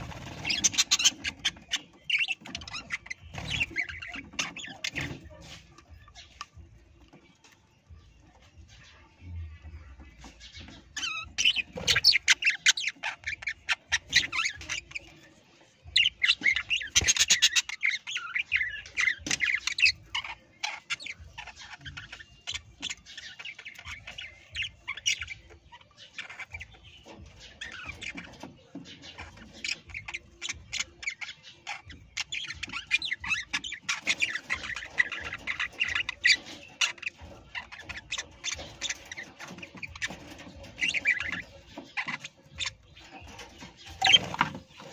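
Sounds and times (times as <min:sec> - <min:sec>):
parrots chirping and squawking: 0:00.0 - 0:09.2, 0:10.0 - 0:44.9.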